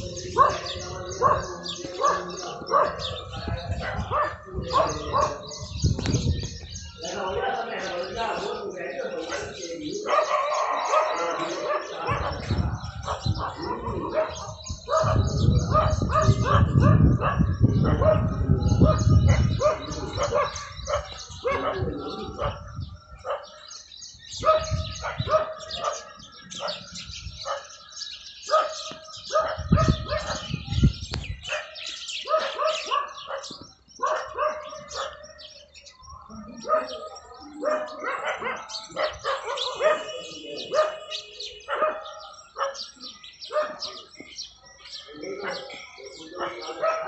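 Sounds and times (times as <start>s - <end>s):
birds chirping: 0.0s - 47.0s
dogs barking: 0.0s - 47.0s.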